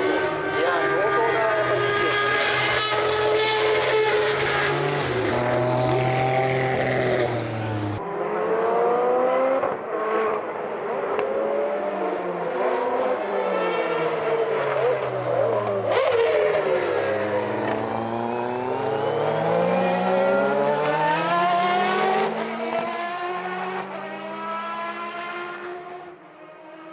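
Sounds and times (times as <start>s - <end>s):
race car engine at high revs: 0.0s - 26.9s.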